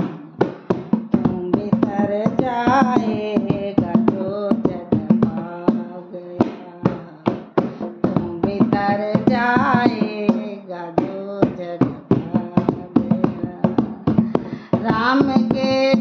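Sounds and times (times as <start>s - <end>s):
barrel drum rhythm: 0.0s - 16.0s
woman singing: 0.0s - 16.0s.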